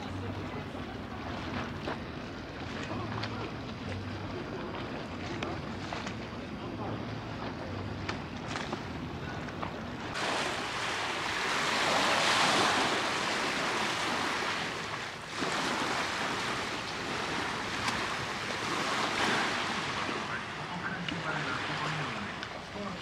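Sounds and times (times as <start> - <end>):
small waves washing ashore: 0.0 - 23.0.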